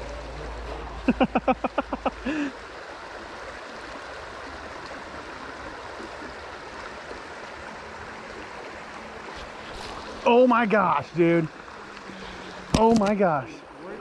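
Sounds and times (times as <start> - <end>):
stream running: 0.0 - 14.0.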